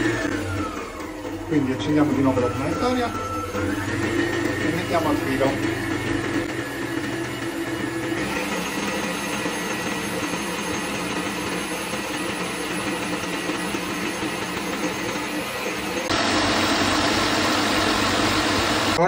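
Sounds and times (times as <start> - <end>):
stand mixer whisking batter: 0.0 - 19.0.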